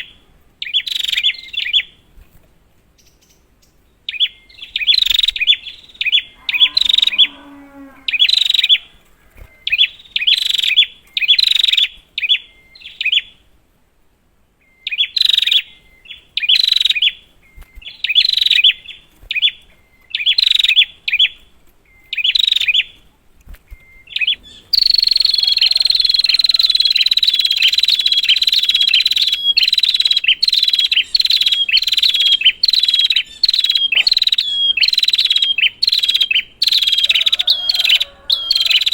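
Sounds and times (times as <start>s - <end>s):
bird chirping: 0.0s - 2.1s, 2.9s - 13.5s, 14.6s - 38.9s.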